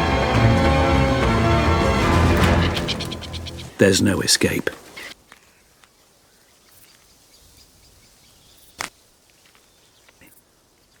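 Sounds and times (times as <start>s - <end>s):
quiet outdoor ambience: 0.0s - 11.0s.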